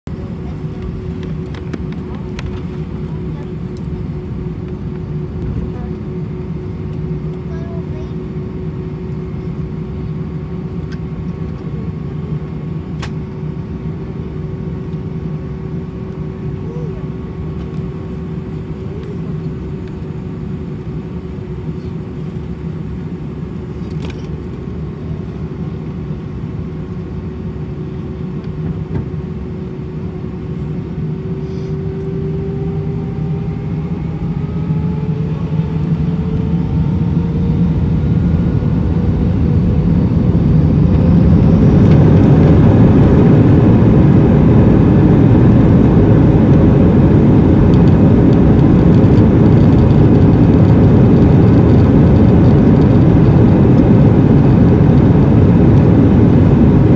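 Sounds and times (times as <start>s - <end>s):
jet engine heavy rumble: 0.0s - 56.9s
jet engine whine rising: 0.1s - 7.5s, 8.2s - 56.9s.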